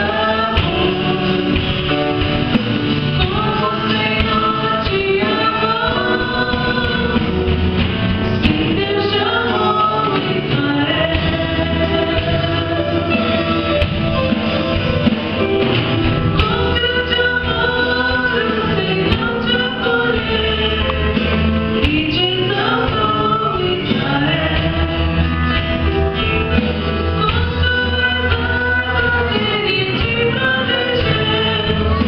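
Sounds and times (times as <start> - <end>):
man and woman singing: 0.0 - 2.2, 3.0 - 13.7, 16.4 - 25.6, 27.2 - 32.0
band playing gospel song: 0.0 - 32.0.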